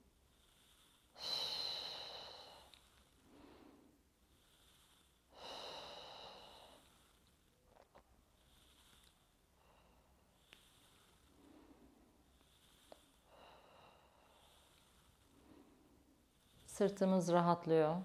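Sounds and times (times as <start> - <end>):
woman breathing: 0.0 - 18.0.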